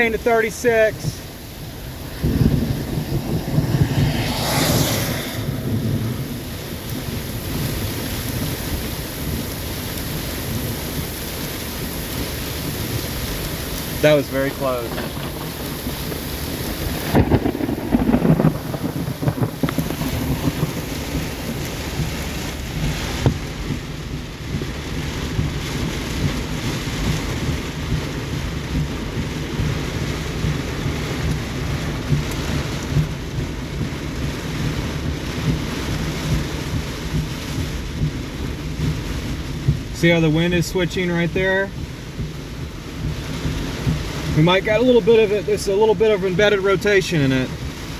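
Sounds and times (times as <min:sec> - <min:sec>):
gusting wind: 0:00.0 - 0:47.9
heavy rain: 0:00.0 - 0:47.9
thunder rumble: 0:00.0 - 0:47.9.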